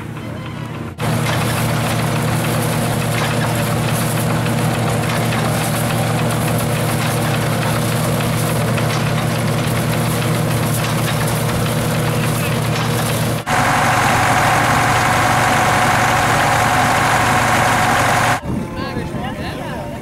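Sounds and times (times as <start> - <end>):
threshing machine running: 0.0 - 18.6.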